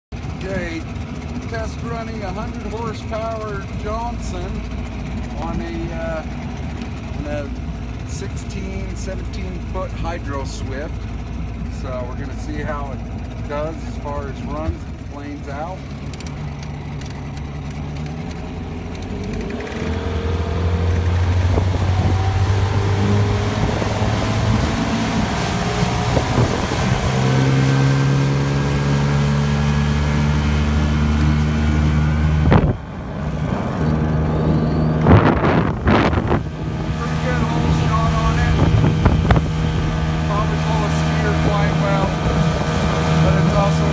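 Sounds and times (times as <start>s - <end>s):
outboard motor accelerating: 0.1s - 43.9s.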